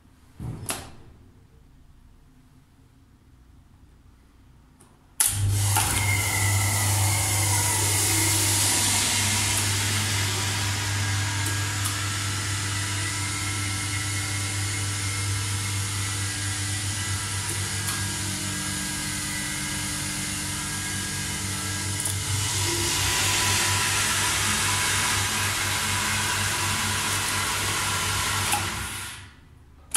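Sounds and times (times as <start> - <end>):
elevator pump motor humming: 5.2 - 29.3.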